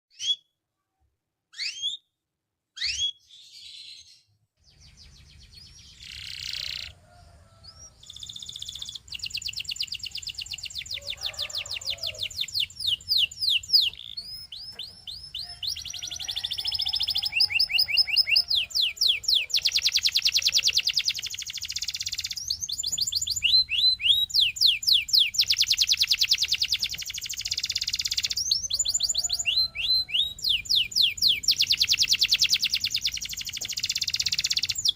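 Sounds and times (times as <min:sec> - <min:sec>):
canary singing trills: 0:00.1 - 0:00.5, 0:01.5 - 0:02.1, 0:02.8 - 0:34.9.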